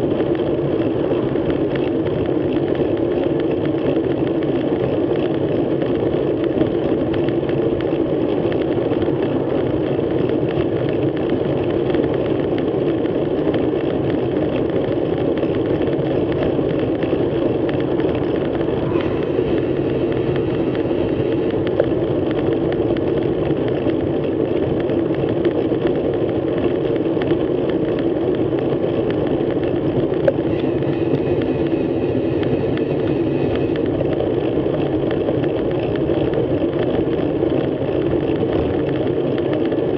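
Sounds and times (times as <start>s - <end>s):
wind rush: 0.0s - 13.1s, 14.1s - 39.9s
bicycle tyre noise: 0.0s - 39.9s.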